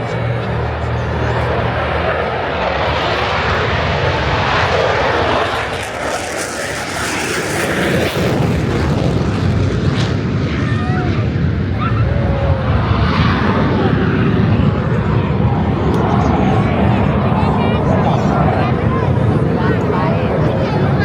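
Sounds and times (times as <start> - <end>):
fighter jet passing overhead: 0.0 - 21.0.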